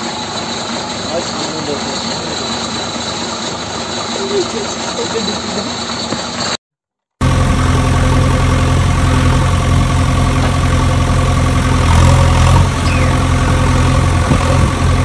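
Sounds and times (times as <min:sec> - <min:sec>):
heavy engine idling: 0:00.0 - 0:06.5, 0:07.2 - 0:15.0.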